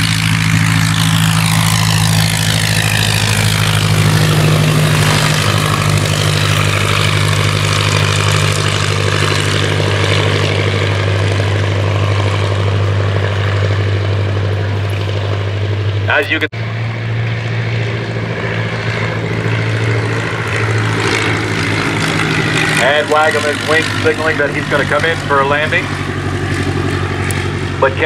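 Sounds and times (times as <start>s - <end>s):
biplane engine and propeller: 0.0s - 28.0s.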